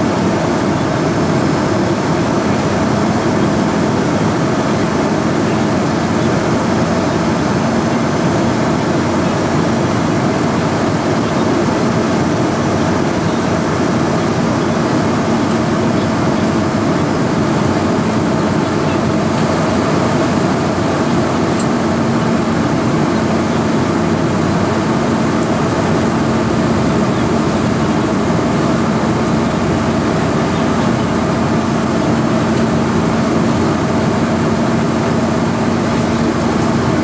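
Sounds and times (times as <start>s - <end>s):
aircraft cabin engine rush: 0.0s - 37.0s
steady low hum: 0.0s - 37.0s.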